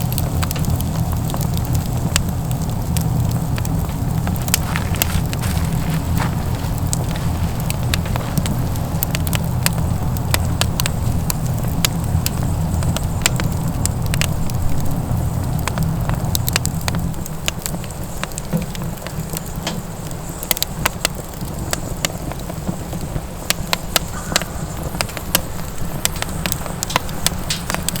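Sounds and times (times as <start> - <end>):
firewood crackling and popping: 0.0 - 28.0
low stove rumble: 0.0 - 28.0.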